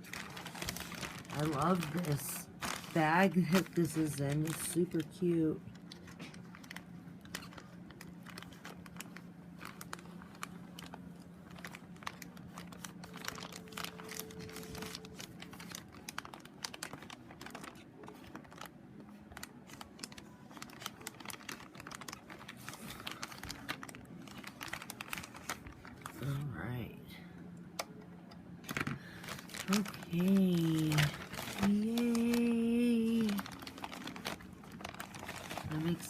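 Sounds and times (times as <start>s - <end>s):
plastic bag crinkling: 0.0s - 26.6s, 28.6s - 36.0s
steady low hum: 0.0s - 36.0s.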